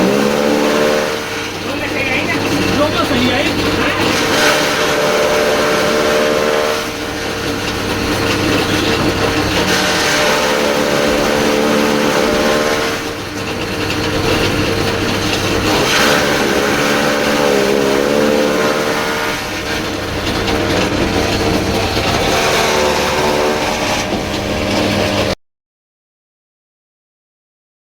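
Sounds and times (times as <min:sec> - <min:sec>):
chaff cutter machine humming: 0:00.0 - 0:25.4.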